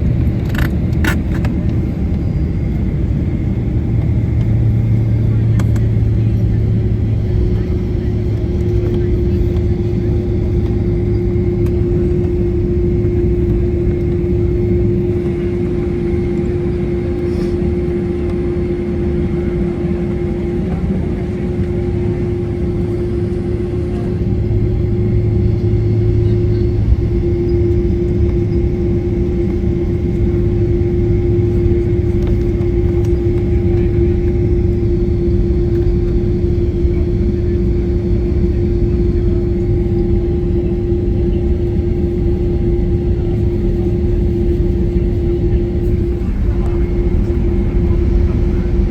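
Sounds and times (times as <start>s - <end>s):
vehicle engine rumble: 0.0s - 48.9s.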